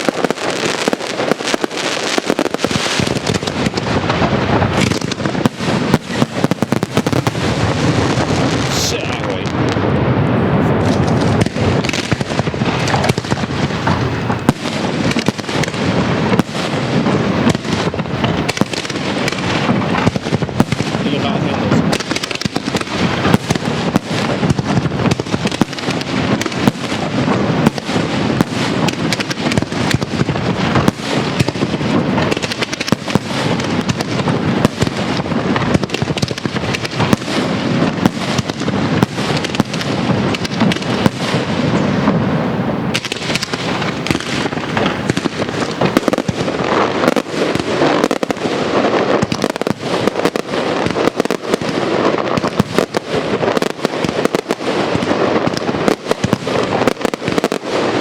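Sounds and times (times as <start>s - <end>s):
fireworks bursts and crackles: 0.0s - 58.0s.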